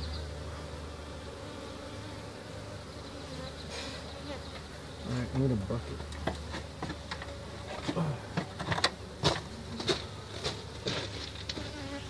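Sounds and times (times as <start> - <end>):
bees humming past: 0.0 - 12.0
honeybees buzzing: 0.0 - 12.0.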